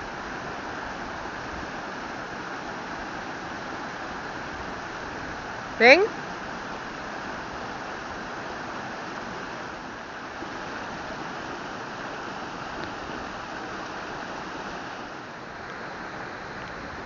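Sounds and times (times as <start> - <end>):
stream water flowing over rocks: 0.0 - 17.0.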